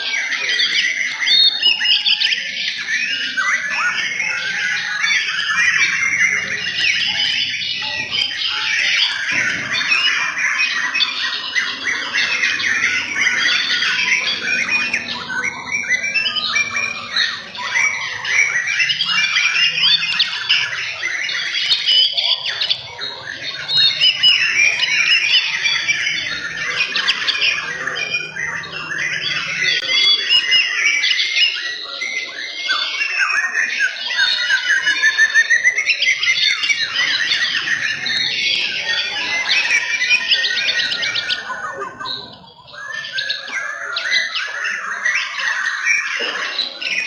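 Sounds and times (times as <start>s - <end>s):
songbirds singing trills: 0.0s - 47.0s.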